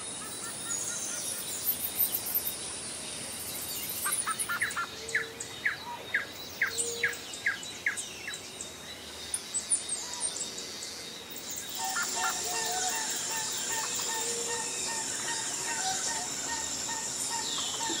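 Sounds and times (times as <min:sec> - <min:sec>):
birds chirping: 0:00.0 - 0:18.0
steady high-pitched hiss: 0:00.0 - 0:18.0.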